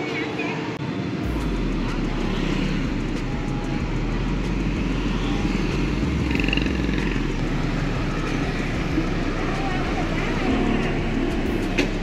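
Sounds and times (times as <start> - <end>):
cars going by: 0.0 - 12.0
motorbikes going by: 0.8 - 12.0.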